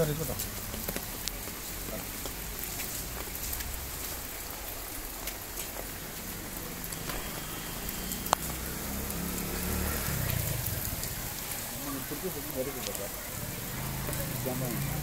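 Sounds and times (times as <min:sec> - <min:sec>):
rainwater running along channel: 0:00.0 - 0:15.0
steady rain falling: 0:00.0 - 0:15.0.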